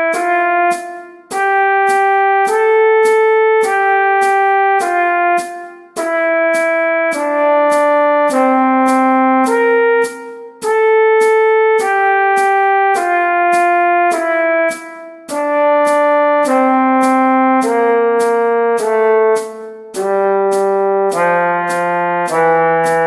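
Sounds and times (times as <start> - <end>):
sharp metronome clicks: 0.0 - 23.0
trombone playing a scale: 0.0 - 23.0.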